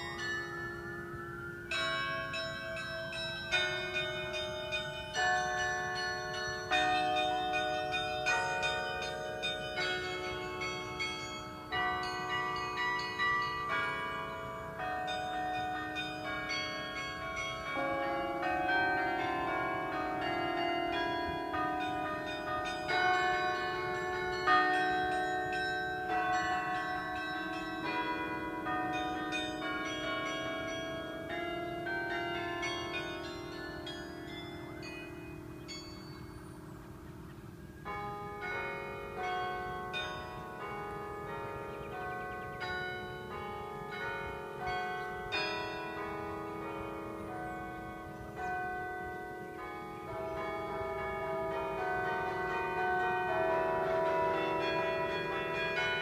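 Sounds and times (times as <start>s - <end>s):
carillon bells ringing a tune: 0.0s - 56.0s.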